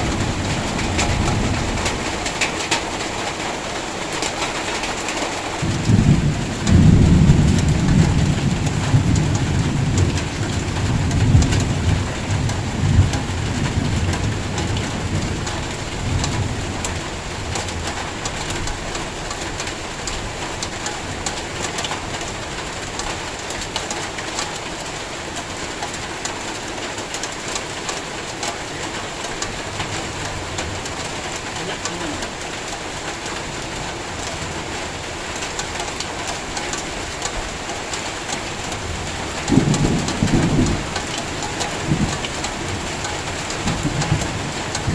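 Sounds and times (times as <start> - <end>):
rumble of thunder: 0.0 - 25.0, 28.0 - 44.9
heavy rain pouring: 0.0 - 44.9
raindrops tapping: 0.0 - 44.9.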